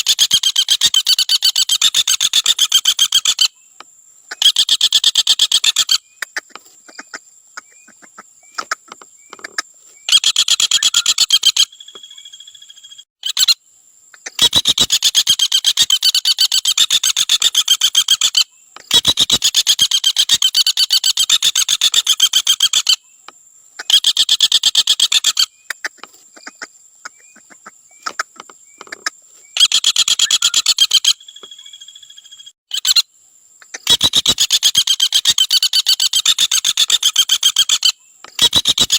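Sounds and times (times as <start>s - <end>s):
woodpecker rattling trill: 0.0s - 3.6s, 4.3s - 13.6s, 14.2s - 23.0s, 23.8s - 33.0s, 33.7s - 38.9s.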